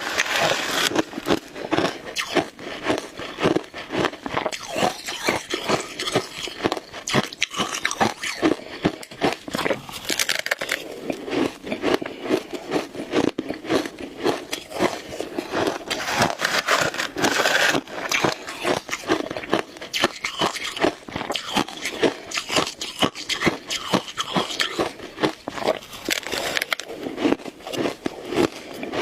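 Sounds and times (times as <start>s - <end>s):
ice crunching while chewed: 0.0s - 29.0s.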